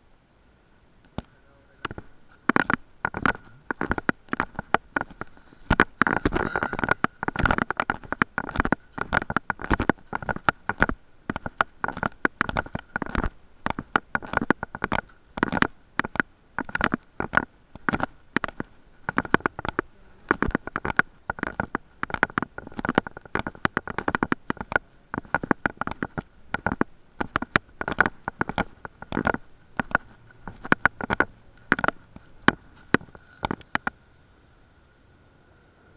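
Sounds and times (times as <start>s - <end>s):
microphone handling noise: 1.1s - 34.0s.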